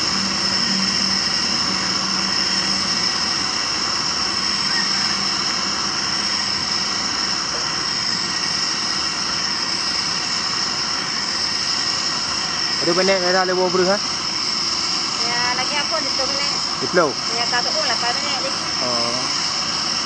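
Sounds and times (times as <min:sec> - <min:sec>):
gas burner hissing roar: 0:00.0 - 0:20.0.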